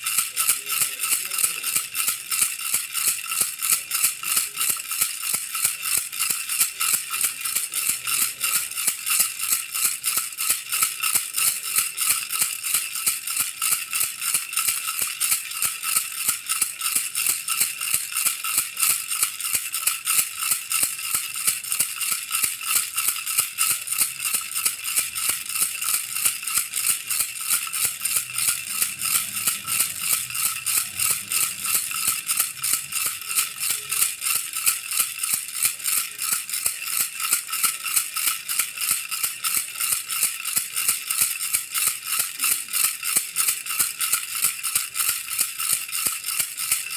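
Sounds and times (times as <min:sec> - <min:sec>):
baby rattle shaking: 0:00.0 - 0:46.9.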